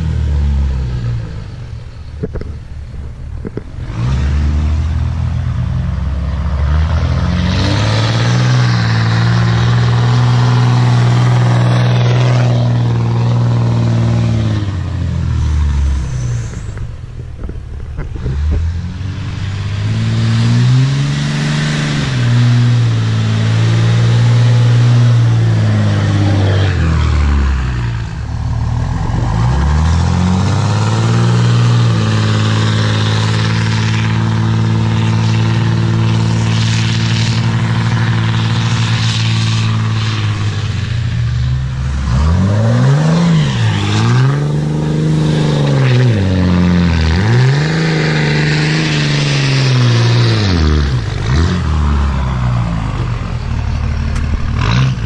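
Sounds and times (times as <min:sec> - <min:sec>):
diesel truck engine revving: 0:00.0 - 0:55.0
tires spinning in sand: 0:00.0 - 0:55.0.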